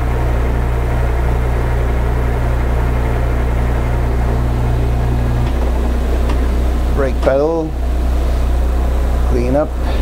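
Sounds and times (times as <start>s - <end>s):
metal lathe running: 0.0s - 10.0s.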